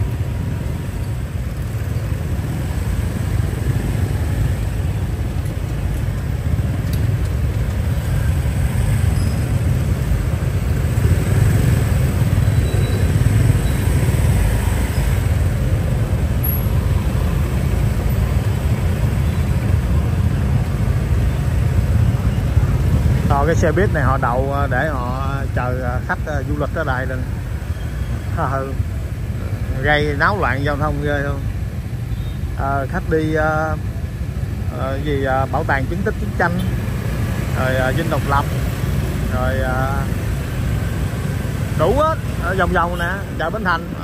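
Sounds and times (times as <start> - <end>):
city road traffic rumble: 0.0 - 44.0.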